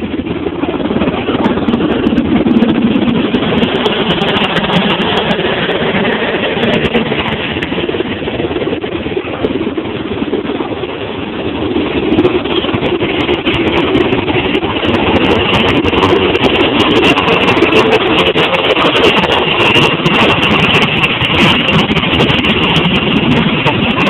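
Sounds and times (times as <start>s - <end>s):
helicopter engine and rotor noise: 0.0s - 24.0s.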